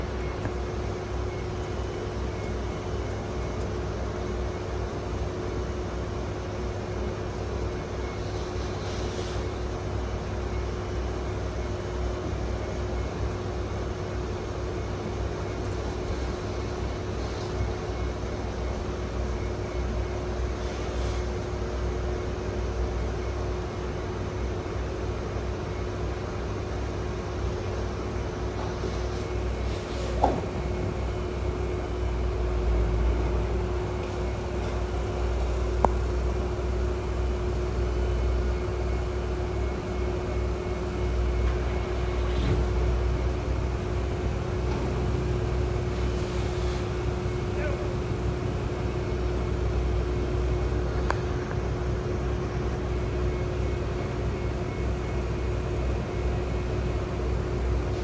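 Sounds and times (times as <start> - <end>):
constant hum: 0.0 - 58.0
low mechanical rumble: 0.0 - 58.0.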